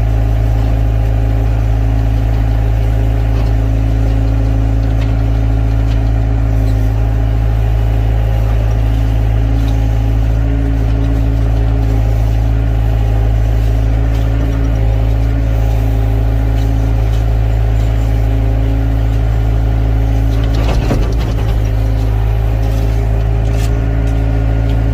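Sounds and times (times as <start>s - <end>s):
excavator diesel engine droning: 0.0s - 24.9s.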